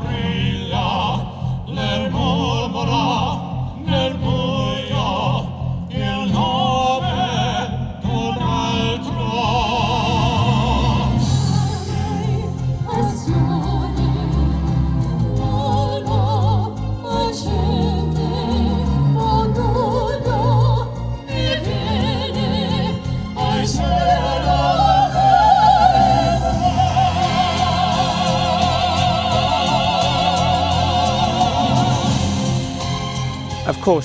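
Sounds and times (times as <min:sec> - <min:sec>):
low musical accompaniment: 0:00.0 - 0:34.0
vocal quartet singing in harmony: 0:00.0 - 0:34.0.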